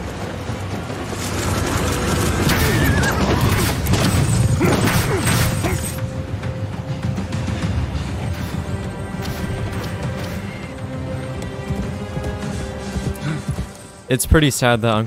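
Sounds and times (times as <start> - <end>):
film music: 0.0 - 15.0.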